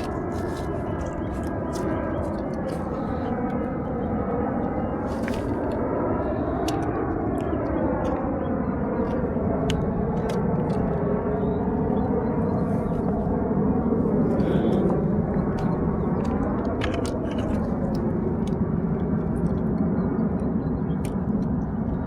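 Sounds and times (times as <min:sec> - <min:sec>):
low rumbling drone: 0:00.0 - 0:22.0.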